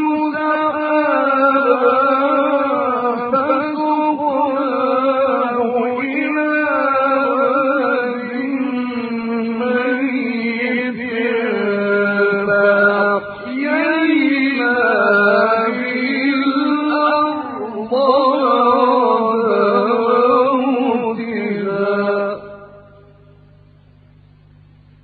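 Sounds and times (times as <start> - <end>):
man chanting melodically: 0.0 - 23.1.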